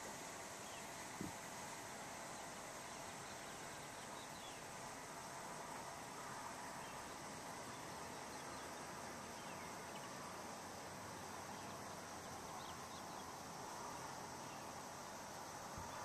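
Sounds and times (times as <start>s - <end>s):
outdoor ambient hiss: 0.0s - 16.0s.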